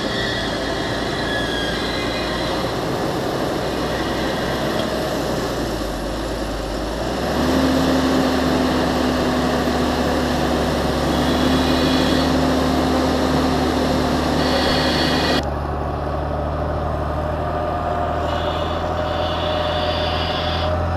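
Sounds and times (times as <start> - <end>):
tractor diesel engine working hard: 0.0 - 20.9.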